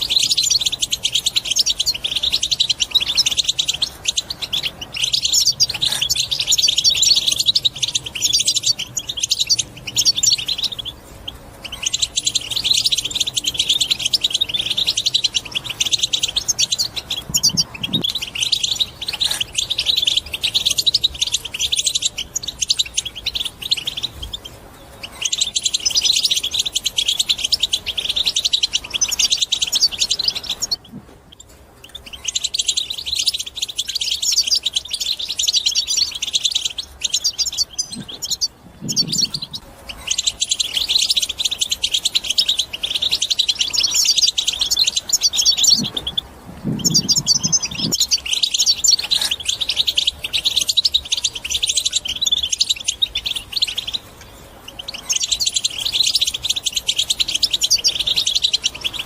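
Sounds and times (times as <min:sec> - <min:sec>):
goldfinch chattering twitter: 0:00.0 - 0:59.0.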